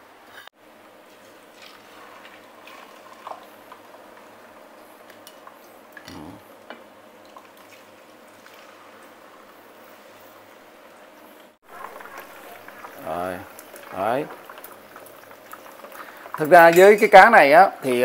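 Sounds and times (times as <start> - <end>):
oil sizzling in frying pan: 0.8 - 6.0, 6.6 - 18.0.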